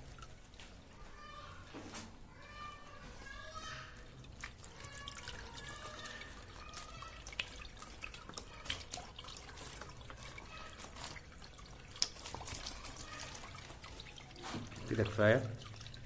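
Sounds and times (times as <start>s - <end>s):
water dripping into a bucket: 0.0s - 16.0s.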